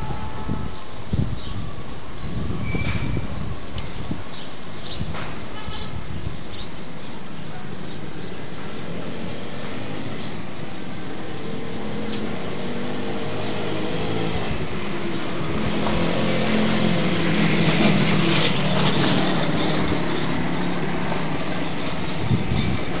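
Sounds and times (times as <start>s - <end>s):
road noise: 0.0s - 23.0s.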